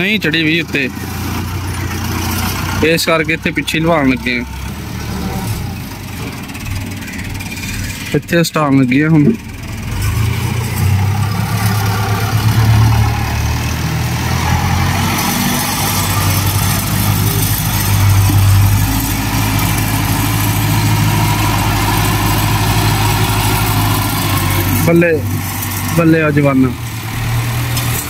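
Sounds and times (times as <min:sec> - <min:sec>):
tractor diesel engine revving: 0:00.0 - 0:28.0.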